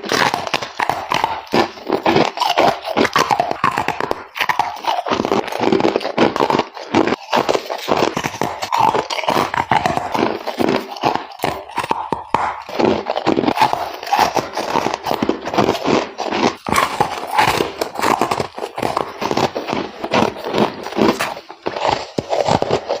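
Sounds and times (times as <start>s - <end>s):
ice being chewed: 0.0s - 23.0s.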